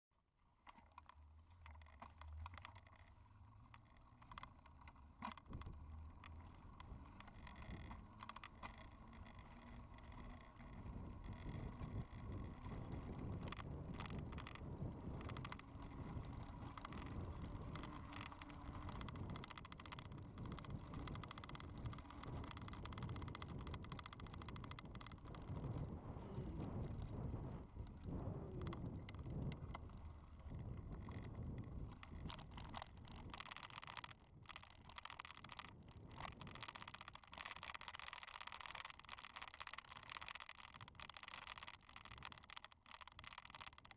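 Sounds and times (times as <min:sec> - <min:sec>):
wind: 0:00.1 - 0:43.9
bicycle rattles and clicks: 0:00.4 - 0:43.9
bicycle tyres rumbling on pavement: 0:00.7 - 0:43.9.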